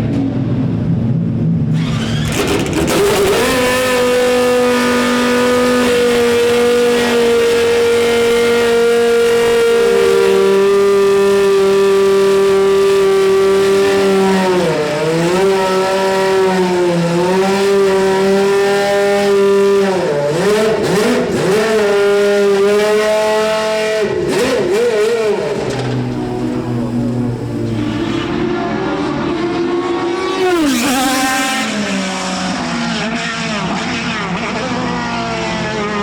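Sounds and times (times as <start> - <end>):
racing car engine revving: 1.7 - 36.0.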